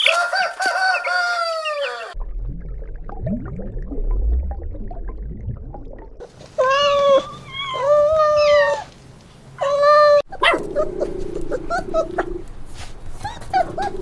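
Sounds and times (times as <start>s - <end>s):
low rumbling background noise: 2.2s - 14.0s.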